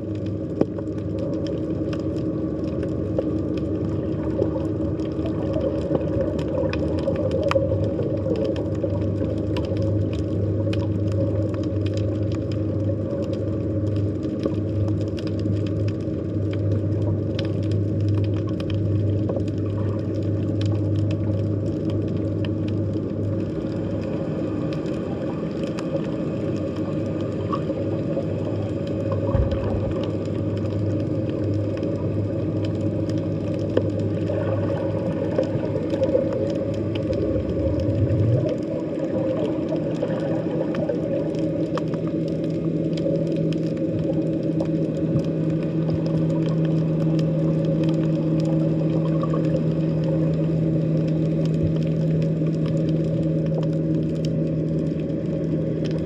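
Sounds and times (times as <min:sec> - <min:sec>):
low underwater hum: 0:00.0 - 0:56.0.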